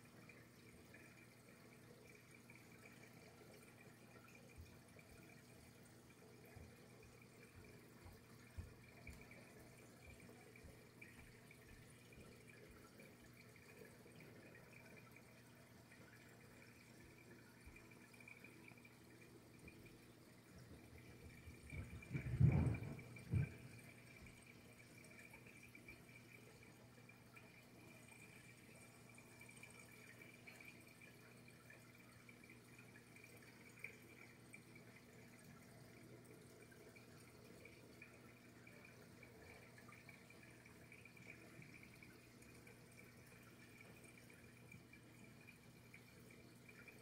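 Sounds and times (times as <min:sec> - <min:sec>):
aquarium water circulation hum: 0:00.0 - 0:47.0.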